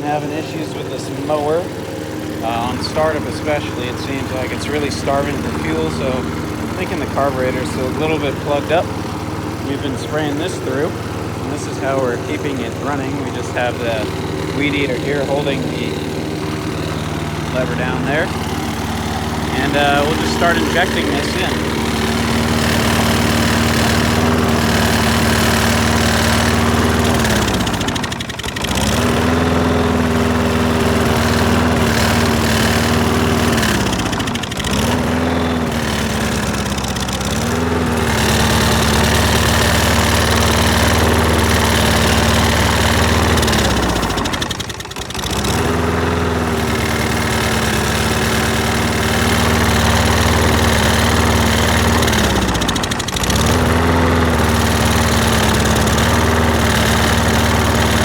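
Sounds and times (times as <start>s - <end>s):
lawn mower engine bogging: 0.0s - 58.0s.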